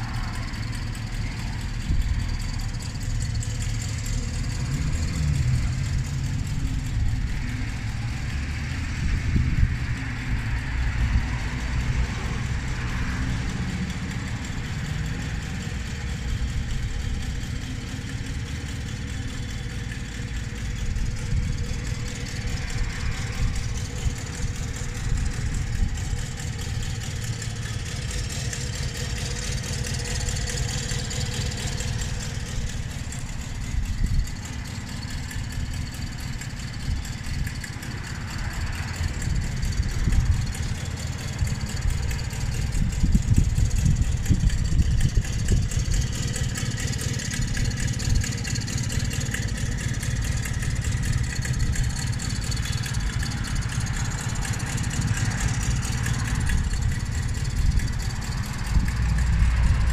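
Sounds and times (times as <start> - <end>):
moped engine idling: 0.0 - 59.9.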